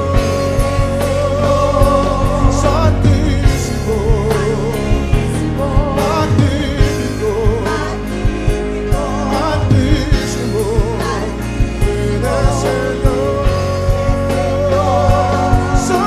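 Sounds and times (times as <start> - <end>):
band with bass and drums: 0.0 - 16.0
person singing: 0.0 - 16.0.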